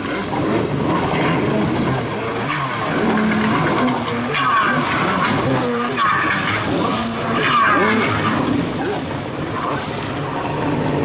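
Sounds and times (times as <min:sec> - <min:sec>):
jet ski engine revving: 0:00.0 - 0:11.0
water spray splashing: 0:00.0 - 0:11.0.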